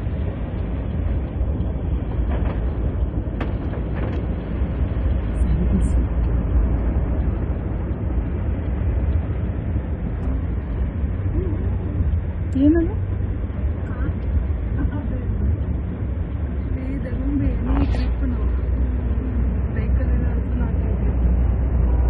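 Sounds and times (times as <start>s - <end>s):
low rumble inside car: 0.0s - 22.0s.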